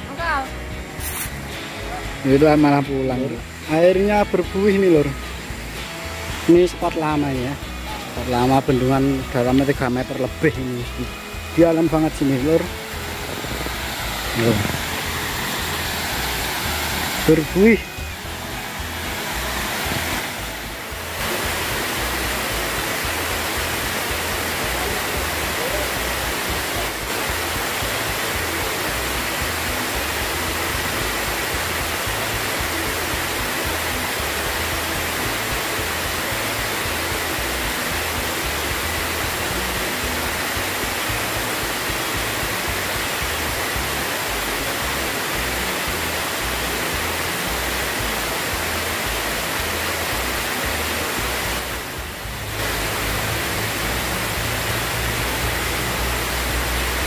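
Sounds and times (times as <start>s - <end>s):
water rushing over weir: 0.0s - 57.0s.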